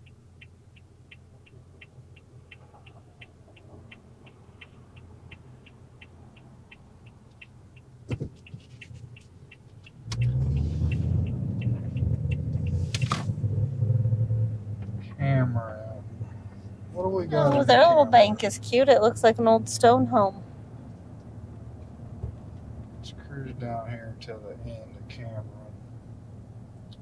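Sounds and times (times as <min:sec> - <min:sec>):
engine and road rumble: 0:00.0 - 0:27.0
turn signal ticking: 0:00.0 - 0:27.0.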